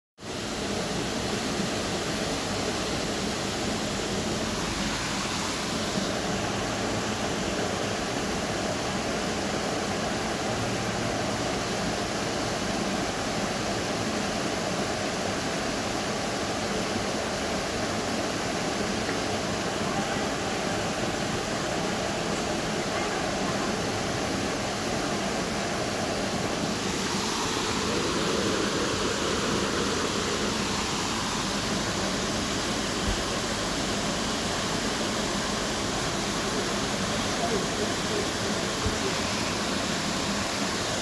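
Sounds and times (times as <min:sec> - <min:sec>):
waterfall rushing: 0:00.2 - 0:41.0.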